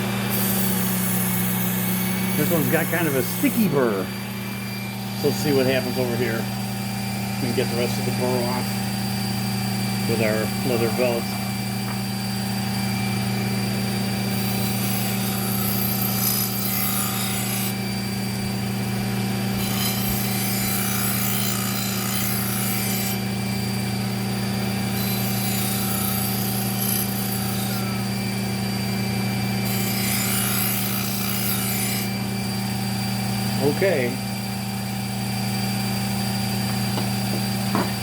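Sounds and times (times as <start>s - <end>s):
sharpener motor hum: 0.0s - 38.0s.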